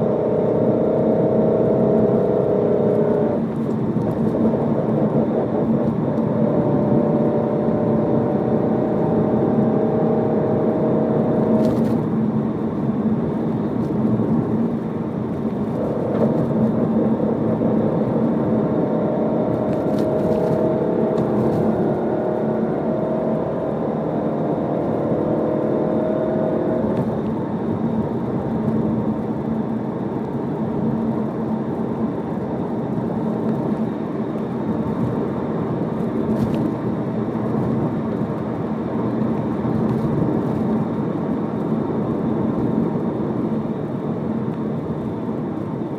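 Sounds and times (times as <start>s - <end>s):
muffler exhaust hum: 0.0s - 45.9s.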